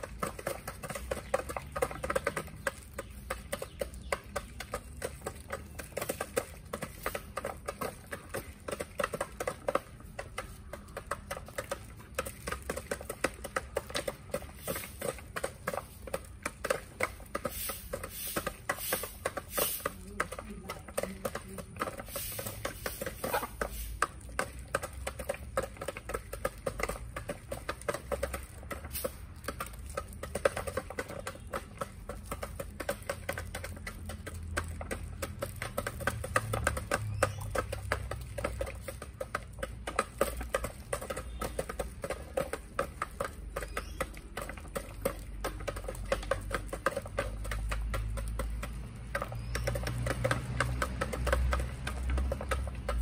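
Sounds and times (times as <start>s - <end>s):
beaks tapping plastic feeder: 0.0s - 53.0s.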